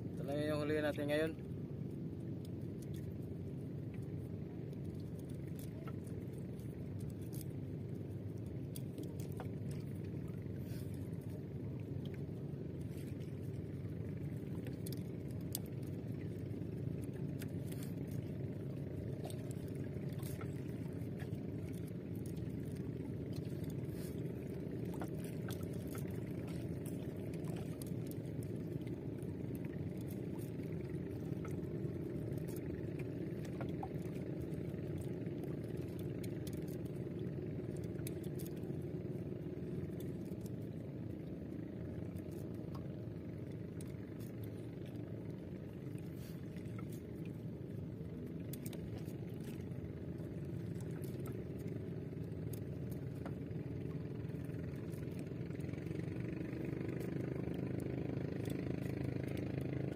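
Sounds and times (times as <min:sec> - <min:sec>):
boat engine rumble: 0:00.0 - 0:59.9
line clicks and scrapes: 0:03.9 - 0:59.9.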